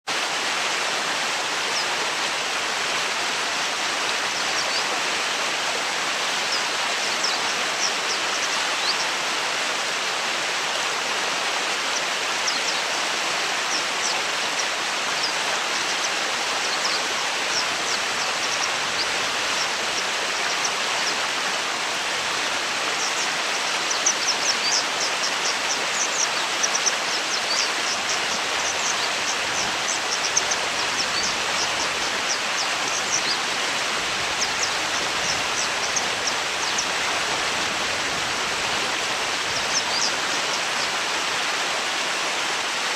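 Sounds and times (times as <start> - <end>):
stream rushing: 0.1 - 42.9.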